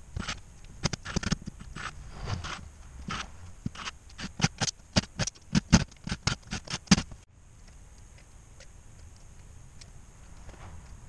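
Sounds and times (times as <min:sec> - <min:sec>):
sharp clicks and knocks: 0:00.1 - 0:11.0.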